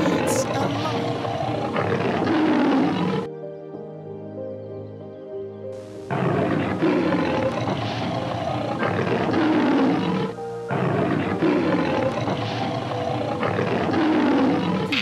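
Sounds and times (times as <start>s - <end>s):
lion roaring: 0.0s - 3.3s, 6.1s - 15.0s
background music: 0.0s - 15.0s.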